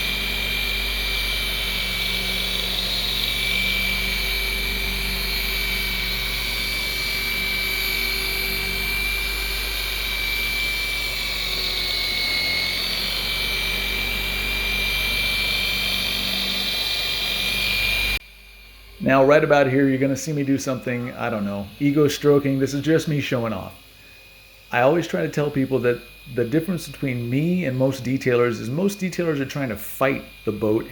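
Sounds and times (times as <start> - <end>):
rotary buffer motor whine: 0.0 - 30.9.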